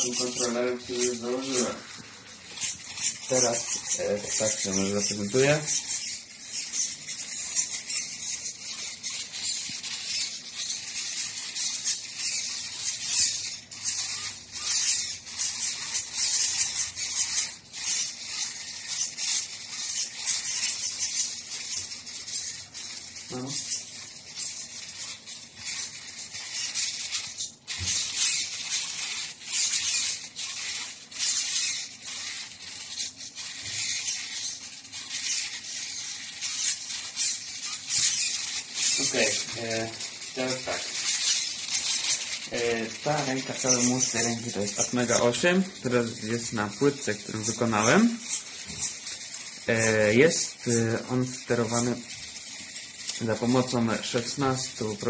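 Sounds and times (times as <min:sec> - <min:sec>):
servo motors buzzing and rattling: 0:00.0 - 0:55.0.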